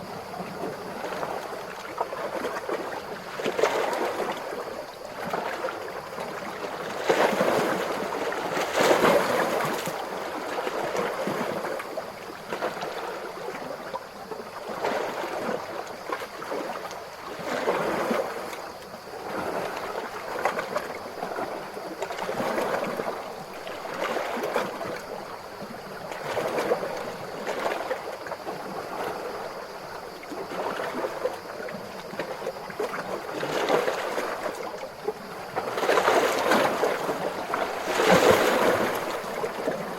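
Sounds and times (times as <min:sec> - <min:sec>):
ocean waves lapping: 0:00.0 - 0:39.9.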